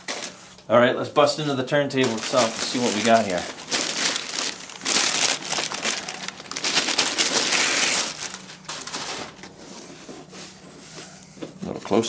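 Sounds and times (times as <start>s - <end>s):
plastic bag and foam wrap crinkling: 0.0s - 0.6s, 1.4s - 10.6s.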